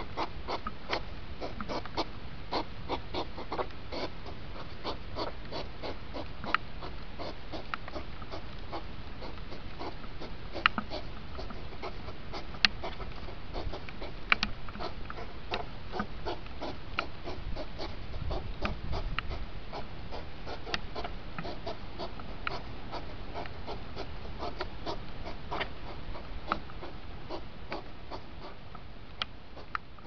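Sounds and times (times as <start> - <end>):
hedgehogs snorting and clicking: 0.0 - 30.0
steady hiss: 0.0 - 30.0.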